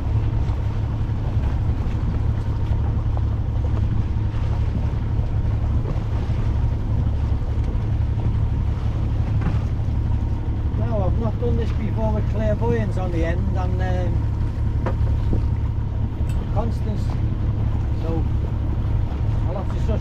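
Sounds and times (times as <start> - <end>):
low rumble on a yacht: 0.0 - 20.0
wind on microphone: 0.0 - 20.0.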